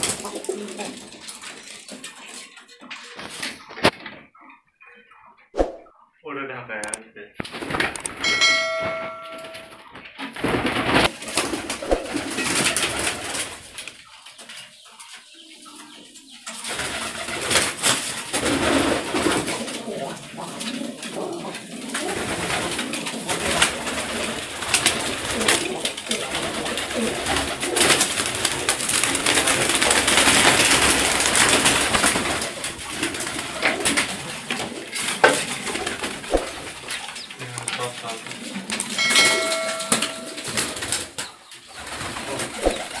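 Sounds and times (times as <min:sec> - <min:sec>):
pigeons cooing: 0:00.0 - 0:06.2, 0:10.3 - 0:43.0.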